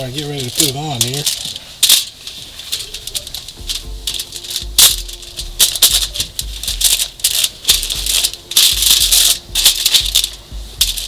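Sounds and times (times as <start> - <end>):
aluminium foil crinkling: 0.0 - 11.0
paper towels rustling: 0.0 - 11.0.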